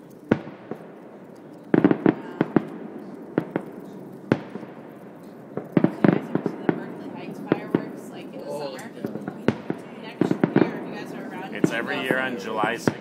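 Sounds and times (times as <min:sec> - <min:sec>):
distant fireworks booming: 0:00.0 - 0:13.0.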